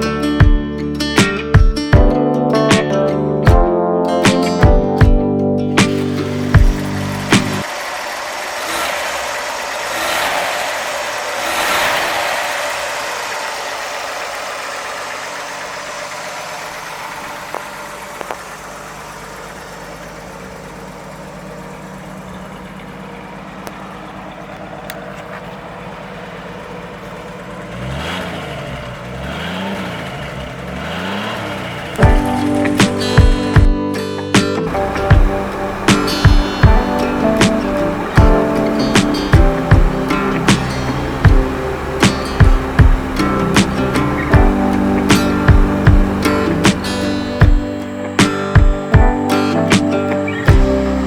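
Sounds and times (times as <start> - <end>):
car engine idling and revving: 3.4 - 51.0.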